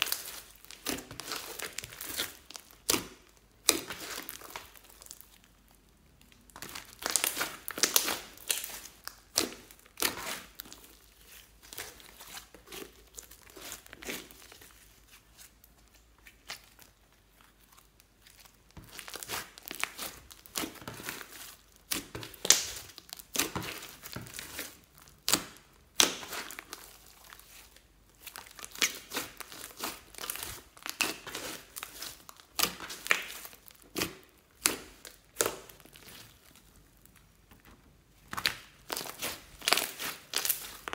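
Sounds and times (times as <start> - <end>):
slime crackling and popping: 0.0 - 40.9.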